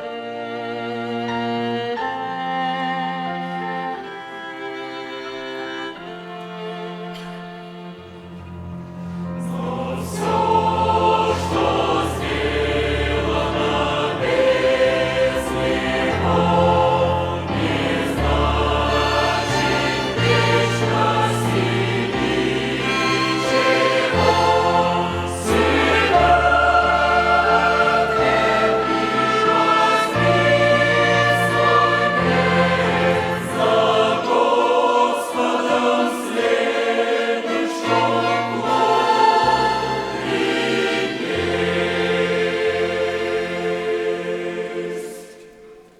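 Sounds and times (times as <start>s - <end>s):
choir singing a hymn: 0.0s - 45.9s
string orchestra: 0.0s - 45.9s.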